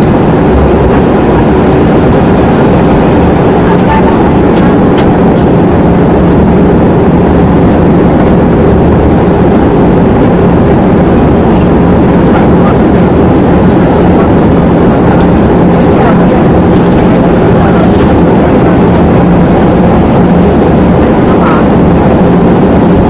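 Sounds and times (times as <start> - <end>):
aircraft engine and airflow noise: 0.0 - 23.0
low hum: 0.0 - 23.0.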